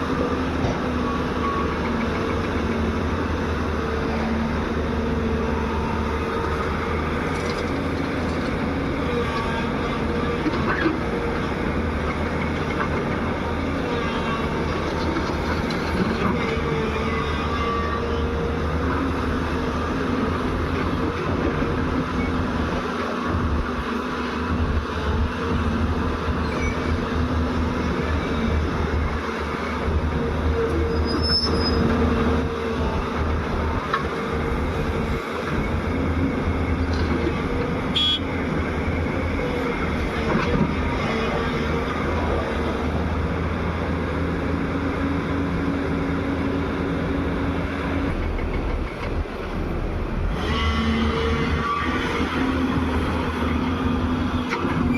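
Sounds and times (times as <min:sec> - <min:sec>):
excavator diesel engine drone: 0:00.0 - 0:54.9.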